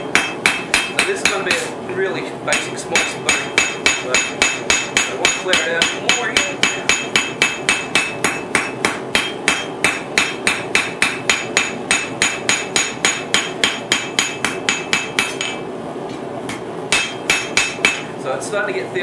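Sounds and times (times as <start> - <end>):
hammer striking metal on anvil: 0.0 - 1.7, 2.5 - 15.6, 16.5 - 18.1.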